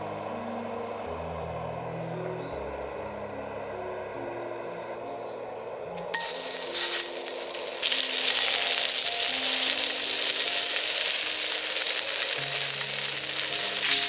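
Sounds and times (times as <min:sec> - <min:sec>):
loud sizzling hiss: 0:00.0 - 0:14.0
soft background music: 0:00.0 - 0:14.0.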